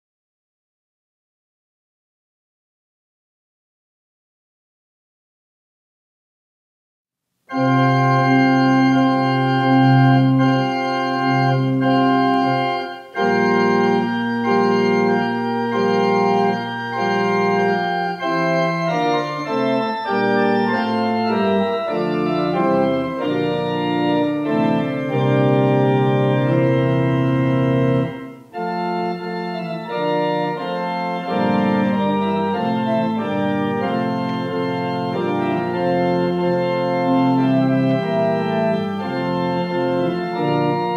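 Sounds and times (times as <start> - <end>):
organ playing sustained chords: 7.5 - 40.9.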